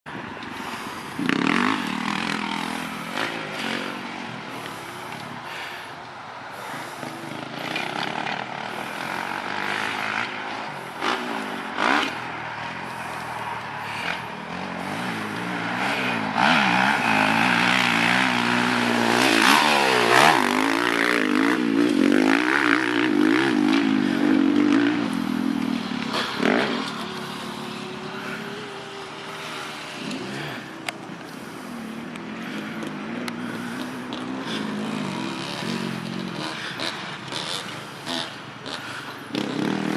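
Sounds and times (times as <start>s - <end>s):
motocross bike engine revving: 0.5s - 5.9s, 6.5s - 39.9s.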